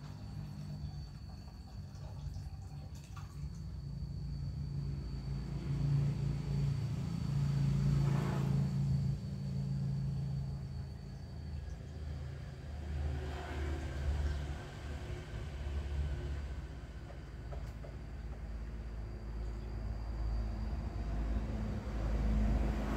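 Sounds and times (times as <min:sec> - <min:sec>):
motor vehicle rumble: 0:03.8 - 0:22.9.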